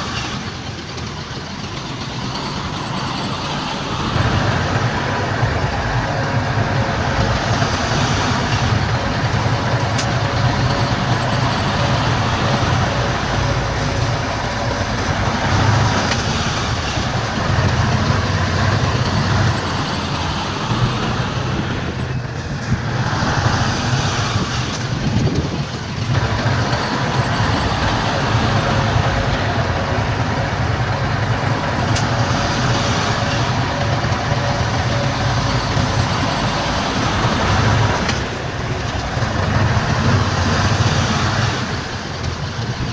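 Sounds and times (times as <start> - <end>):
heavy diesel machinery running: 0.0 - 42.9.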